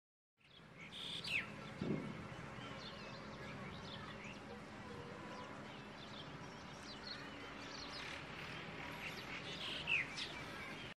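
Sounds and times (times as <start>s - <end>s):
birds chirping: 0.4s - 10.9s.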